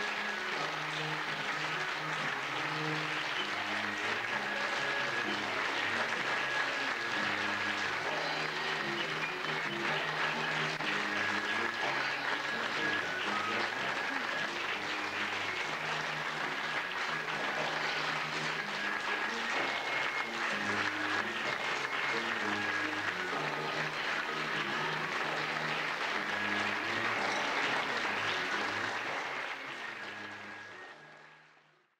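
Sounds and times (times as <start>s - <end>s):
audience applauding: 0.0s - 31.9s
music: 0.0s - 31.9s.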